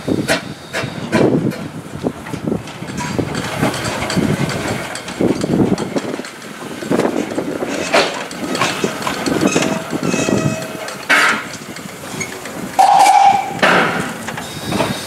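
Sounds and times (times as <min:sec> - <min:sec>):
hissing steam: 0:00.0 - 0:15.0
steam locomotive chuffing: 0:00.0 - 0:15.0
metallic clanks of running gear: 0:00.3 - 0:15.0.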